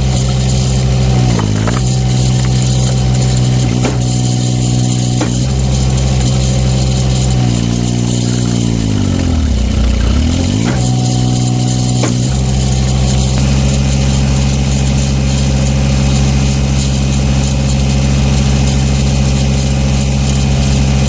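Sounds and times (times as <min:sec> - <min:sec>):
wood splitter engine running: 0:00.0 - 0:21.0.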